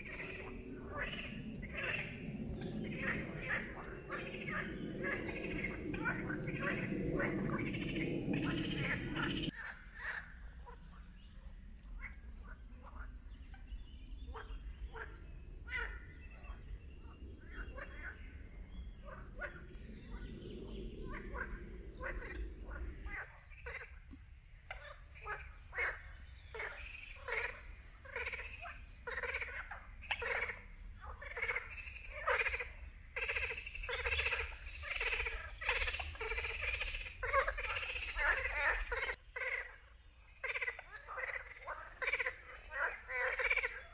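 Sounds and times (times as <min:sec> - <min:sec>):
frogs croaking: 0:00.0 - 0:43.9.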